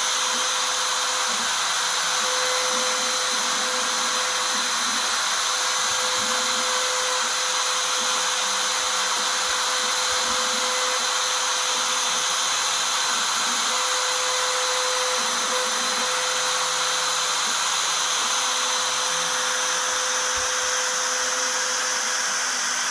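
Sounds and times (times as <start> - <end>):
router spindle high whine: 0.0 - 22.9.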